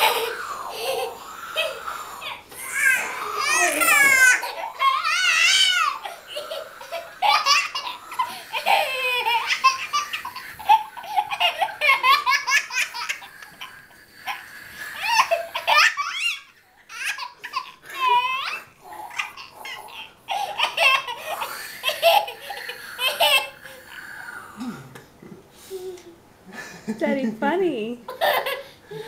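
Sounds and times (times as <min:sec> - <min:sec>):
toddler laughing: 0:00.0 - 0:14.4, 0:15.0 - 0:23.8.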